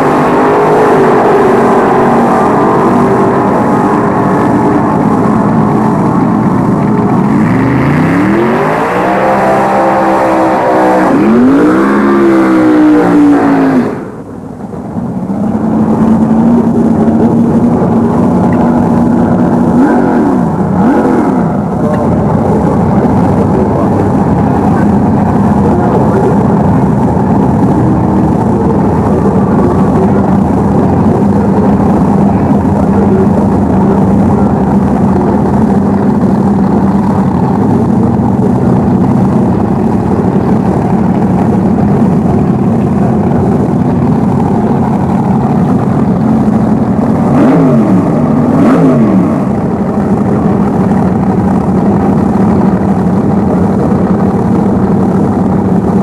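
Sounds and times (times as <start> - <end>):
drag car engine idling loudly: 0.0 - 56.0.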